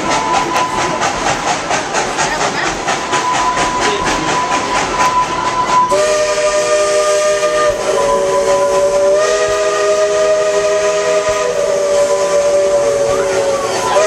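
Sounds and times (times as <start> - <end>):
steam locomotive chime whistle: 0.0 - 1.0, 3.1 - 14.0
steam hissing: 0.0 - 14.0.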